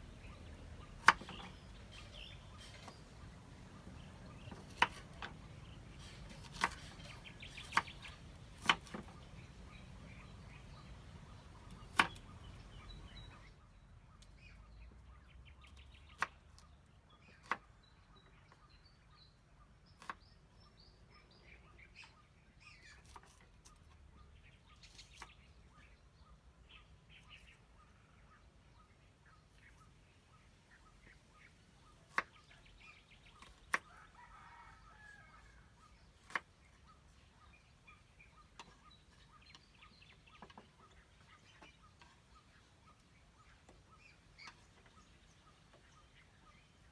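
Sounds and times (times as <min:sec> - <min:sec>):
faint birdsong: 0:00.0 - 0:46.9.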